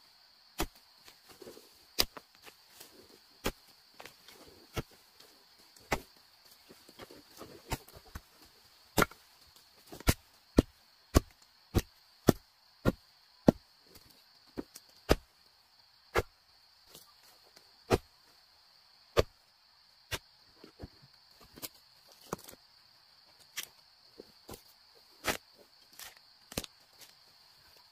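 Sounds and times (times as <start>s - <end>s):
high insect drone: 0.0s - 27.9s.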